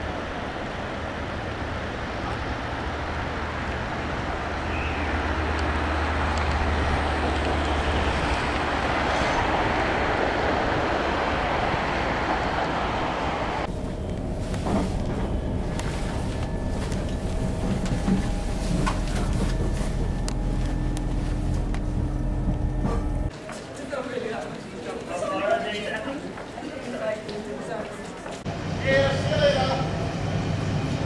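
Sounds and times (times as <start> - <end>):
rushing outdoor noise: 0.0 - 24.4, 26.3 - 31.0
train carriage rumble: 0.0 - 31.0.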